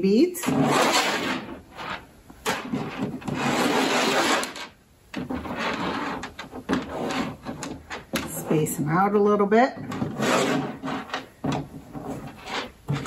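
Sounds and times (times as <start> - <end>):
plastic beads scraping on yarn: 0.4 - 8.8, 9.9 - 13.0.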